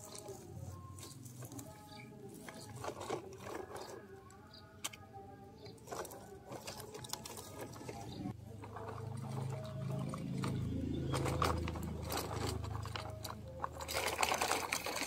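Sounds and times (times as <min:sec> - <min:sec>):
toy truck rolling on gravel: 0:00.0 - 0:15.0.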